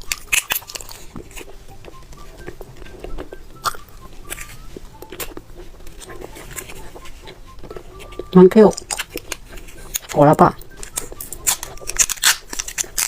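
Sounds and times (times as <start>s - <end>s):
chewing gummy candy: 0.0s - 13.0s.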